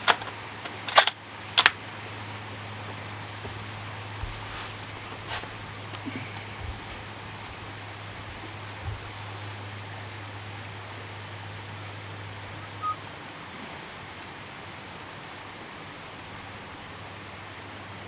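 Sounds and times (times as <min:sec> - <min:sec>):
constant low hum: 0:00.0 - 0:18.0
outdoor background hiss: 0:00.0 - 0:18.0.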